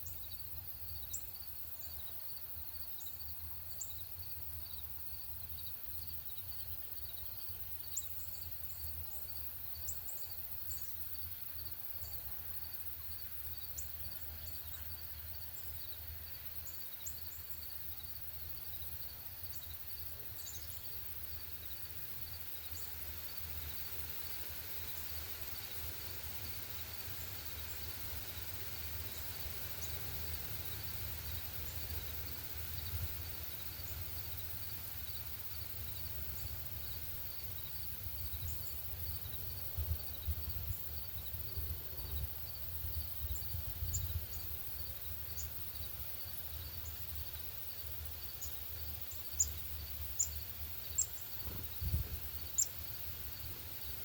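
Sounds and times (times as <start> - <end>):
insect chirping: 0.0 - 54.0
songbird chirps: 0.0 - 54.0.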